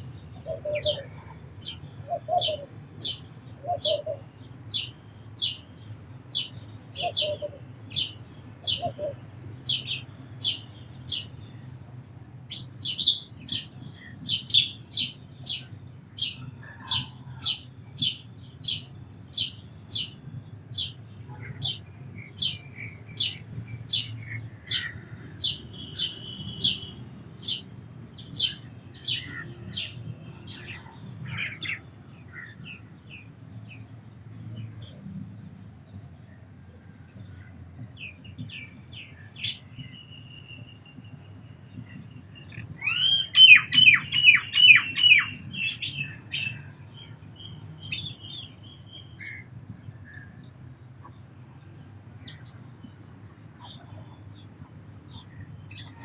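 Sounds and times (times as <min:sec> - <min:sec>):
sparrow chirping: 0:00.0 - 0:56.0.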